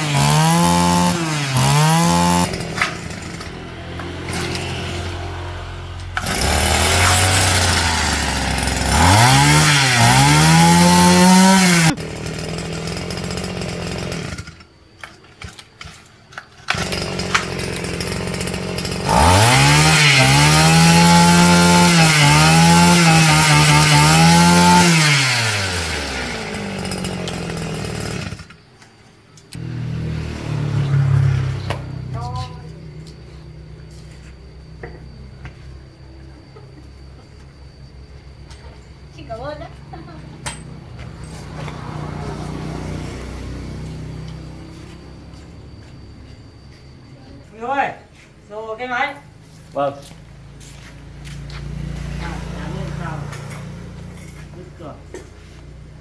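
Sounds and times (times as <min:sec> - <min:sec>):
chainsaw engine idling and revving: 0:00.0 - 0:14.8, 0:15.4 - 0:28.7, 0:29.5 - 0:39.2, 0:39.8 - 0:46.8, 0:48.8 - 0:56.0.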